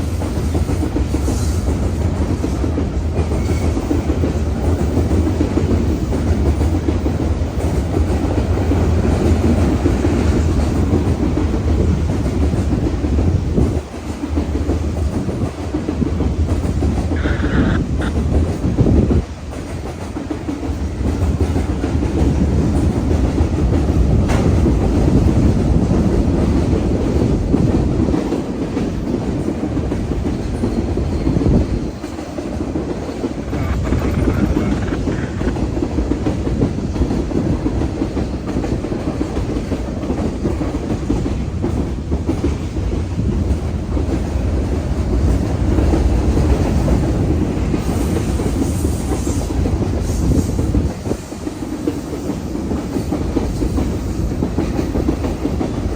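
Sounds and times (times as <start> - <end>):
train wheels clacking over rails: 0.0 - 55.9.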